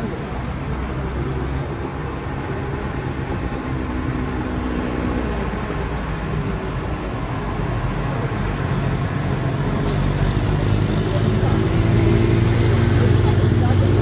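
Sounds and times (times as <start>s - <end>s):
low drone of vehicle engines: 0.0s - 14.0s.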